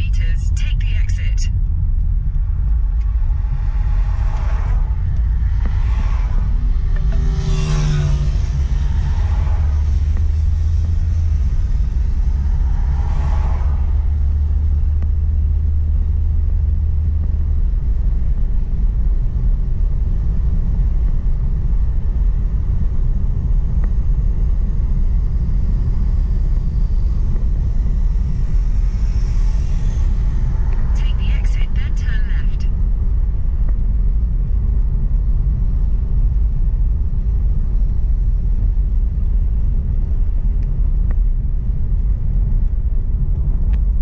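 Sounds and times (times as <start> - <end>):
car driving heard from inside: 0.0 - 44.0
low hum: 0.0 - 44.0.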